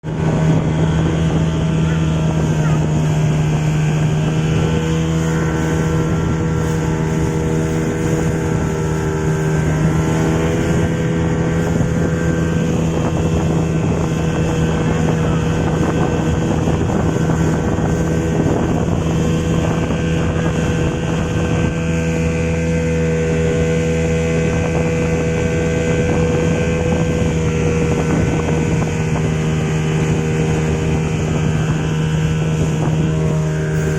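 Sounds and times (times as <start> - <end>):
rushing wind: 0.0 - 33.9
speedboat engine running: 0.0 - 33.9
water rushing: 0.0 - 33.9.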